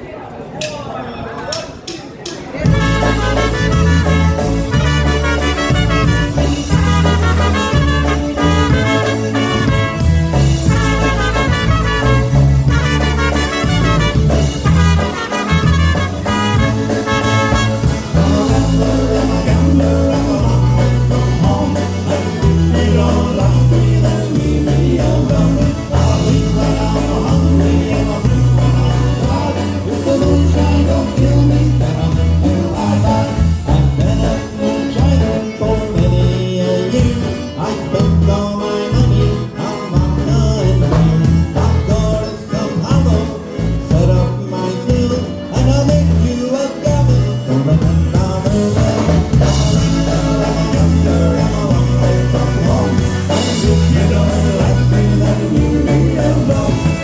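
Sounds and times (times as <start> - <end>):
polka band playing folk dance: 1.4 - 57.0
prominent bass line: 2.7 - 57.0.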